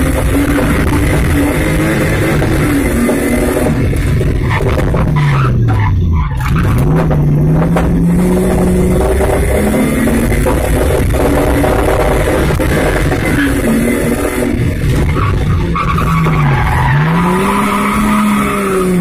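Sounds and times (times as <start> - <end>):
rally car engine revving: 0.0 - 19.0
road and tyre noise: 0.0 - 19.0.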